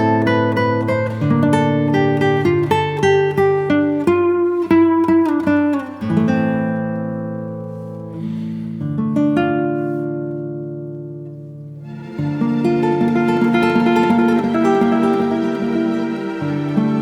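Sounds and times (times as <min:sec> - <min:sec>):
acoustic guitar melody: 0:00.0 - 0:17.0.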